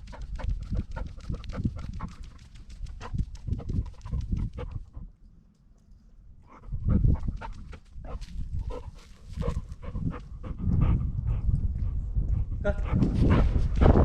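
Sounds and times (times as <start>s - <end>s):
dog panting: 0.0s - 5.2s, 6.4s - 14.0s.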